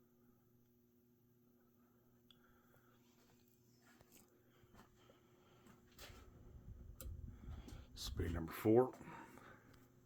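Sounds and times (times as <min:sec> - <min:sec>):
ceiling fan motor hum: 0:00.0 - 0:10.0.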